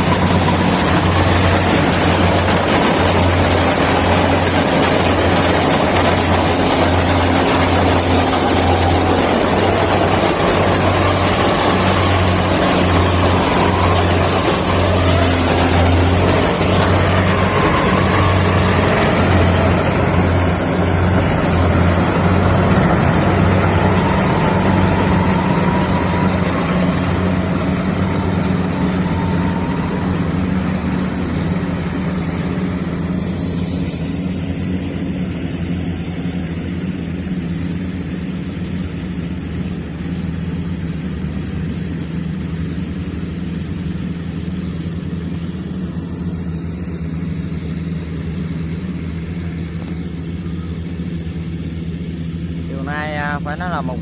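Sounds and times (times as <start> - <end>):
combine harvester engine droning: 0.0 - 54.0.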